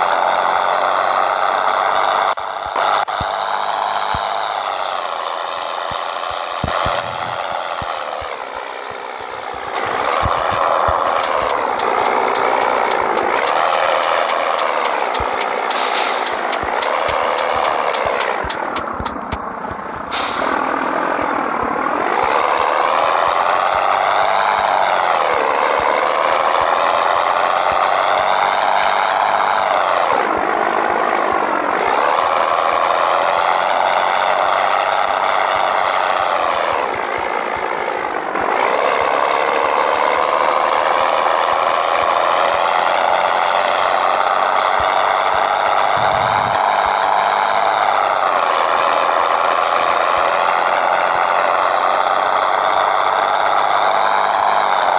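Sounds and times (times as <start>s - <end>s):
diesel truck engine accelerating: 0.1s - 54.9s.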